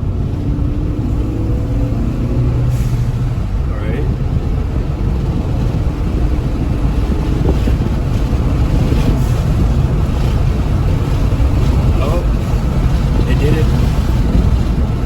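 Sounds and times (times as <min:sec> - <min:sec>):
engine and road noise rumble: 0:00.0 - 0:15.0.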